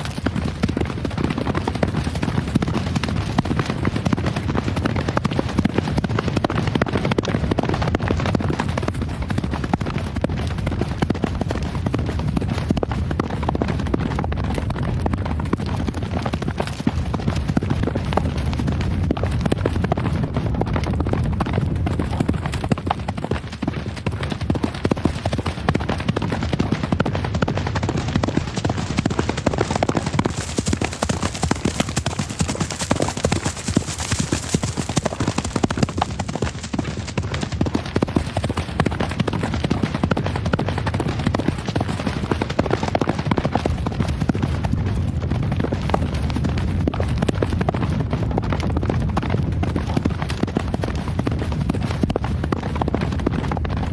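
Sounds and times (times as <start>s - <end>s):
horse hooves galloping: 0.0s - 53.9s.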